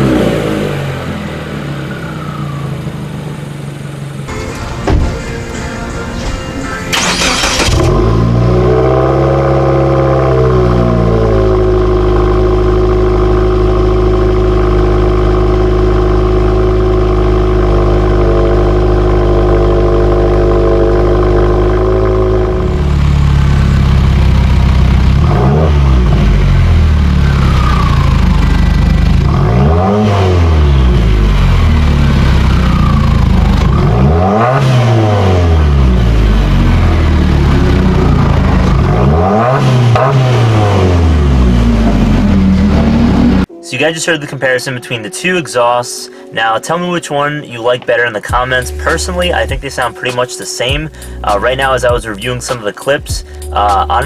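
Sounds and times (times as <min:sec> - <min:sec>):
car engine idling: 0:00.0 - 0:43.5, 0:47.9 - 0:54.0
car engine revving: 0:00.0 - 0:43.5, 0:48.4 - 0:54.0.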